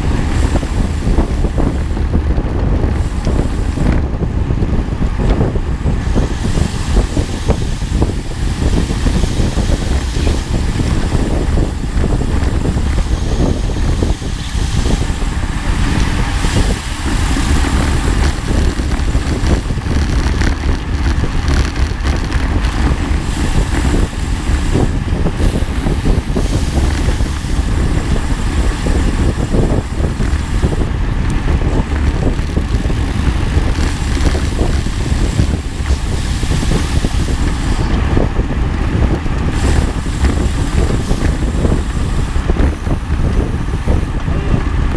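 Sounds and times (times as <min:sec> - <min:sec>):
vehicle rumble in motion: 0:00.0 - 0:44.9
wind buffeting microphone: 0:00.0 - 0:44.9.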